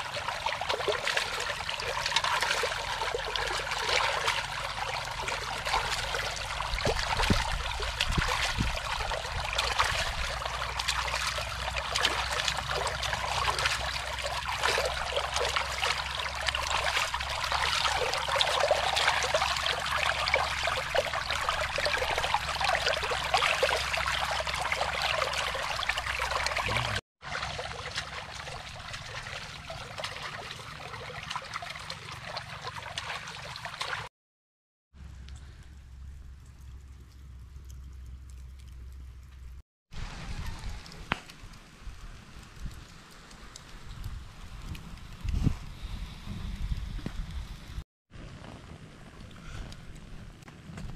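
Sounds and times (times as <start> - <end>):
shallow water trickling: 0.0 - 34.1, 35.0 - 46.0.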